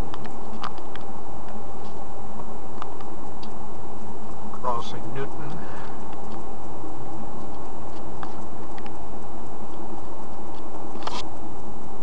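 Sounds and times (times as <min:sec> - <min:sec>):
light ticks and clicks: 0:00.0 - 0:12.0.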